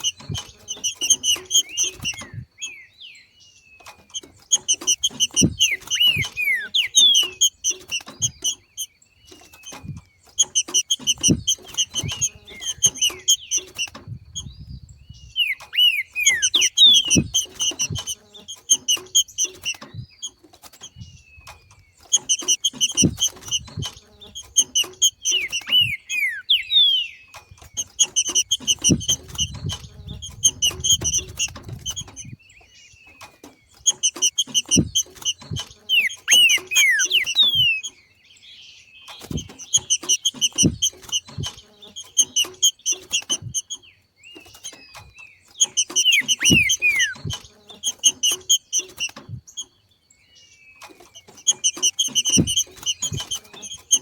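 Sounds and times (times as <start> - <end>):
knocks and rustles: 0.0 - 2.7, 3.8 - 26.0, 27.3 - 37.9, 39.0 - 49.8, 50.8 - 54.0
bird calling with whistles: 0.0 - 38.0, 38.8 - 49.7, 50.4 - 54.0.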